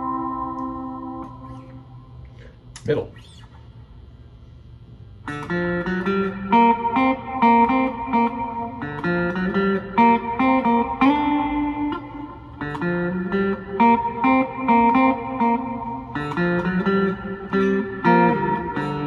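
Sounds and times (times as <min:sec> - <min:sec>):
clean electric guitar: 0:00.0 - 0:04.0, 0:04.7 - 0:19.0.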